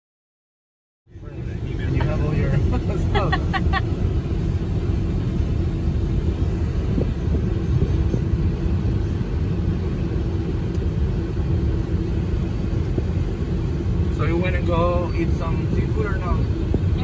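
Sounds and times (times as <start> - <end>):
car engine rumble: 1.1 - 17.0
road noise: 1.1 - 17.0.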